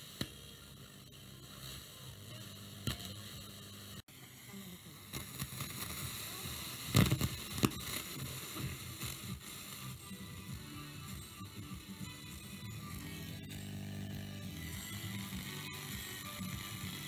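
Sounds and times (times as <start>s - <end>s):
faint radio broadcast fragments: 0.0s - 17.0s
radio static hiss and crackle: 0.0s - 17.0s.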